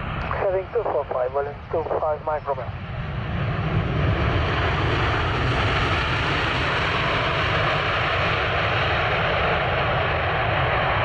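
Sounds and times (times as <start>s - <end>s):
jet airliner engines: 0.0s - 11.0s.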